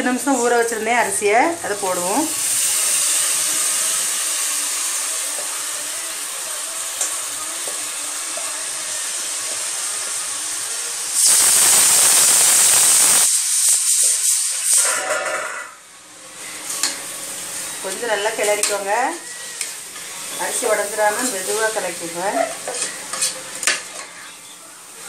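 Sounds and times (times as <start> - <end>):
ghee and onions sizzling: 0.0 - 25.0.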